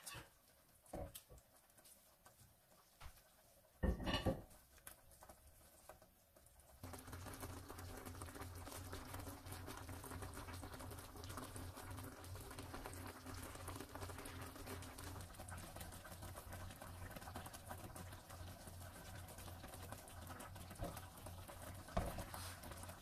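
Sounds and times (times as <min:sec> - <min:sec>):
sauce simmering in a frying pan: 0:00.0 - 0:23.0.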